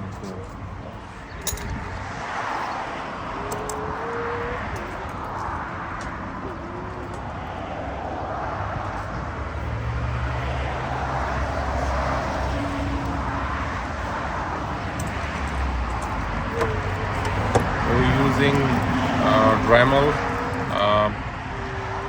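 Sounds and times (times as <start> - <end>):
passing vehicle engine and tyres: 0.0 - 22.0.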